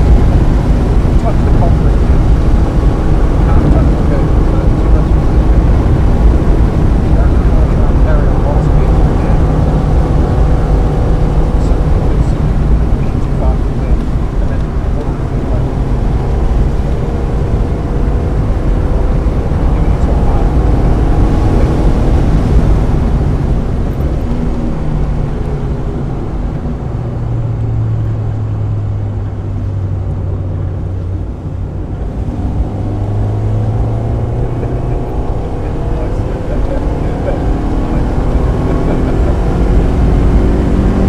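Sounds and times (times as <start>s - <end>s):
car engine pulling hard: 0.0s - 41.0s.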